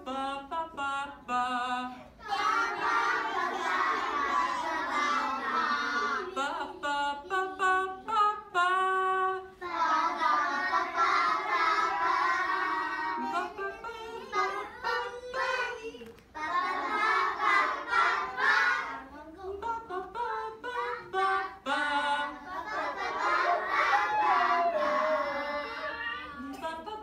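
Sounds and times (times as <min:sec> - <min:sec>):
young children singing: 0:00.0 - 0:27.0.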